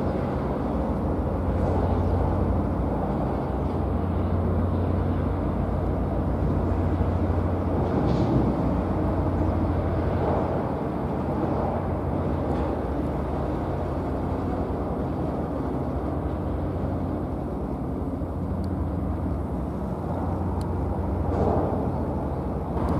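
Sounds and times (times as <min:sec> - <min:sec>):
boat engines droning: 0:00.0 - 0:22.9
rushing water wake: 0:00.0 - 0:22.9.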